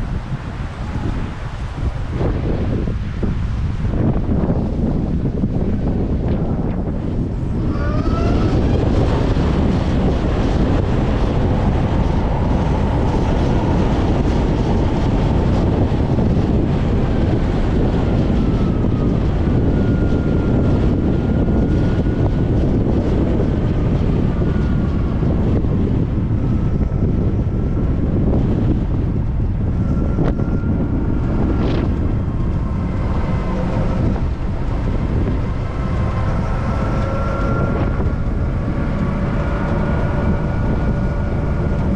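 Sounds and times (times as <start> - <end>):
wind rush on microphone: 0.0 - 41.9.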